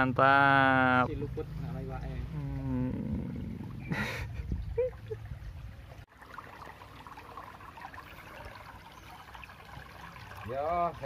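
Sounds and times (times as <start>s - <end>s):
shallow water trickling and splashing: 0.7s - 11.0s.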